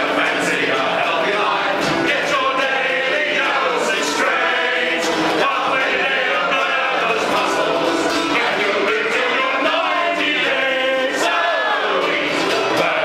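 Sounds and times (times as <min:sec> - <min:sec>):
acoustic guitar: 0:00.0 - 0:13.0
men singing in chorus: 0:00.0 - 0:13.0.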